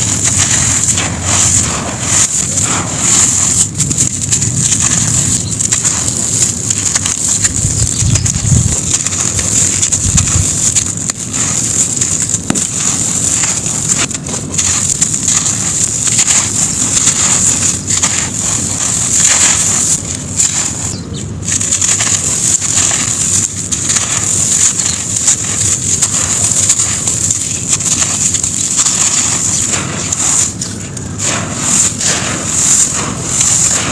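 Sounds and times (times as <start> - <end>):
sand crunching on a floor: 0.0 - 33.9.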